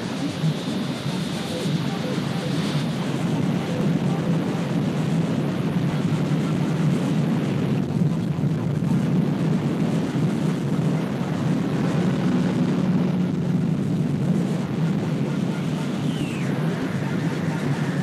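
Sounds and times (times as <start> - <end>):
distorted rumbling electronic noise: 0.0 - 18.0.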